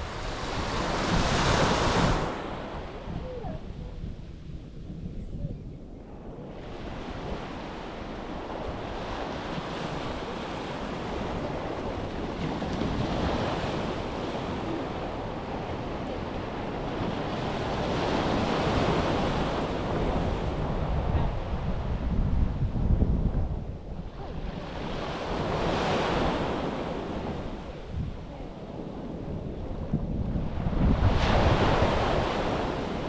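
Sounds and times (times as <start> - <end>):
waves breaking on beach: 0.0 - 3.7, 6.2 - 21.8, 24.0 - 33.0
wind rumbling on microphone: 0.0 - 33.0.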